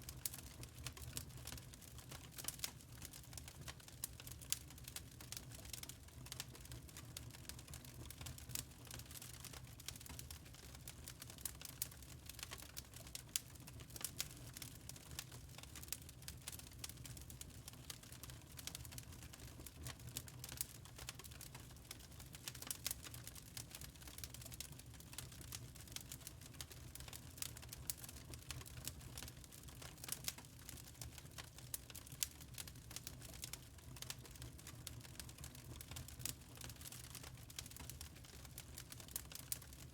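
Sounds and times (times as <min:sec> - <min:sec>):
wood fire crackling: 0:00.1 - 0:39.9
low rumble of flame: 0:00.2 - 0:39.9.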